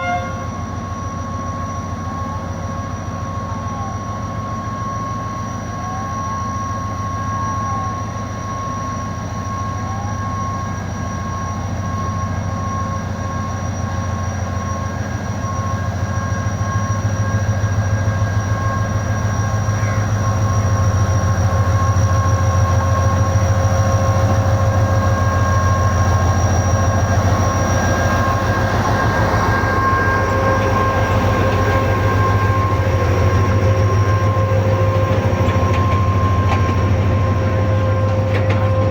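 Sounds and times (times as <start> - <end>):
passenger train running: 0.0 - 38.9.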